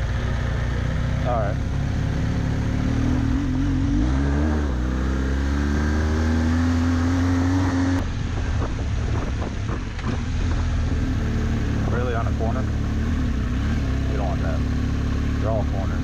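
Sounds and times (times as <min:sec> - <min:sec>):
motorcycle engine: 0:00.0 - 0:16.0
wind and road noise: 0:00.0 - 0:16.0.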